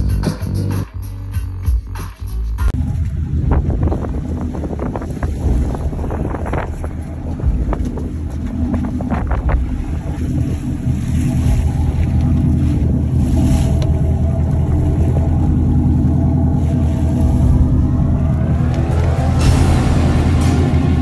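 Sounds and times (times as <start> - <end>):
boat engine rumble: 0.0 - 21.0
wind buffeting microphone: 2.8 - 21.0.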